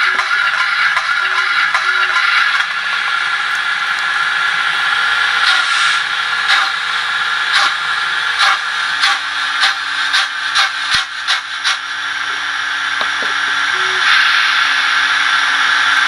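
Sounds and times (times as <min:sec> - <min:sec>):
model steam engine hiss and chuffs: 0:00.0 - 0:16.0.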